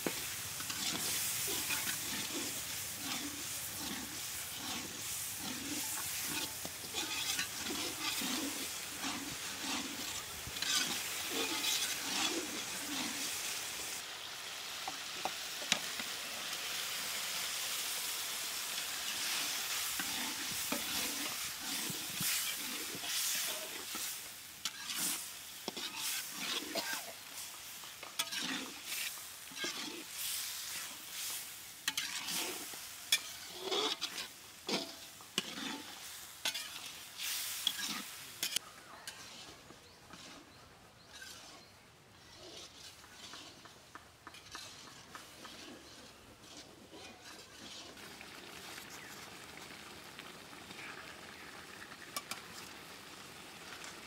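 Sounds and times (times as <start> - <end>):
metal spatula scraping a wok: 0.0 - 14.1, 16.7 - 49.4, 52.0 - 52.8
food sizzling: 0.0 - 40.4, 42.4 - 54.0.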